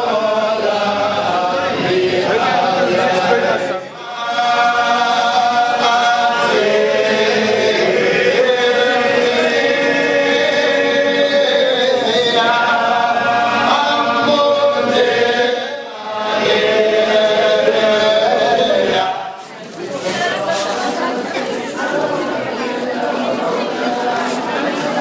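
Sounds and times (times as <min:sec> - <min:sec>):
men chanting: 0:00.0 - 0:25.0.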